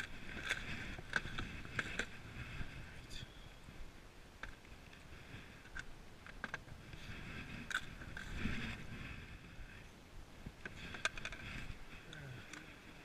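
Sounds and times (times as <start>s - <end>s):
gear scraping and rustling on hull: 0.0s - 13.0s.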